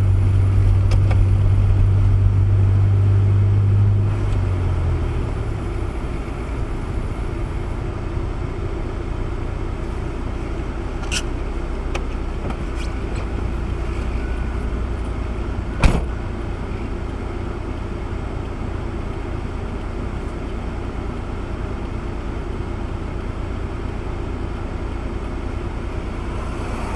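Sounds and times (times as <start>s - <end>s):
car engine and road rumble: 0.0s - 26.9s.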